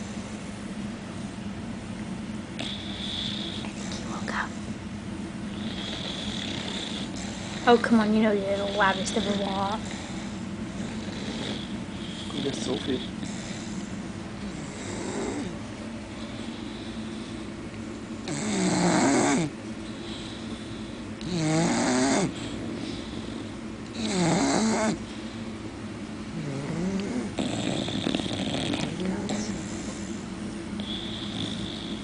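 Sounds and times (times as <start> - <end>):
pet snoring: 2.6 - 4.5, 5.5 - 15.6, 16.2 - 17.5, 18.2 - 25.3, 26.3 - 30.2, 30.8 - 32.0.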